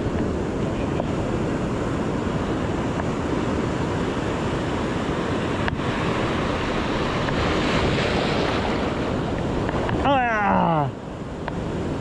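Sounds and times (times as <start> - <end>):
surf breaking: 0.0 - 12.0
wind on microphone: 0.0 - 12.0.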